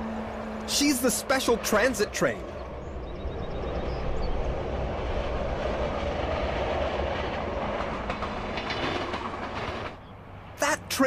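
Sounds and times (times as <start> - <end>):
train wheels rolling on rails: 0.0 - 10.1.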